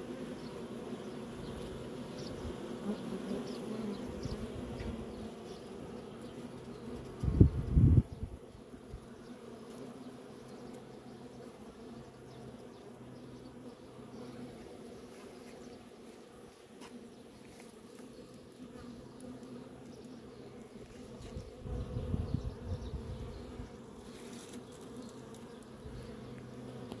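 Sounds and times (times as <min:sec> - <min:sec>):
bees humming: 0:00.0 - 0:27.0.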